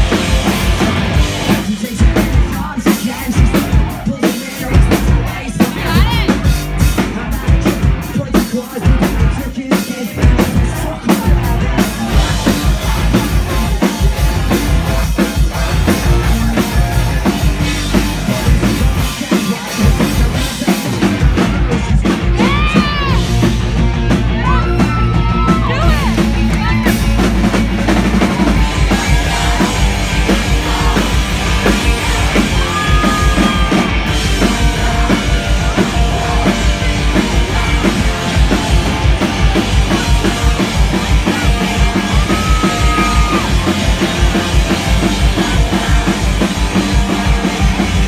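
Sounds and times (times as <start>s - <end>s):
distorted electric guitar: 0.0s - 48.0s
fast driving drum beat: 0.0s - 48.0s
live rock band playing: 0.0s - 48.0s.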